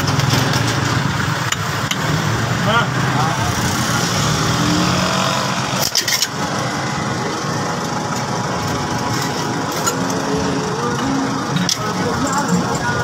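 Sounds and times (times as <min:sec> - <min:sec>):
background engine noise: 0:00.0 - 0:13.0.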